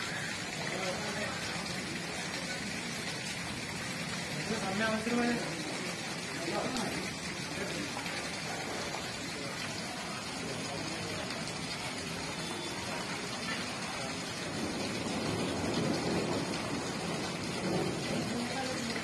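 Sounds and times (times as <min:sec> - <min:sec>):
running water: 0:00.0 - 0:19.0
torrential rain: 0:00.0 - 0:19.0.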